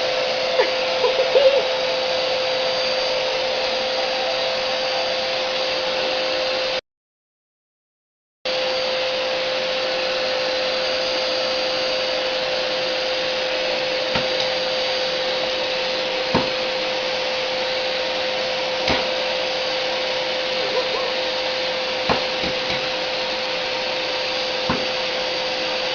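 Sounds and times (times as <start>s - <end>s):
vacuum cleaner running: 0.0s - 6.8s, 8.5s - 25.9s.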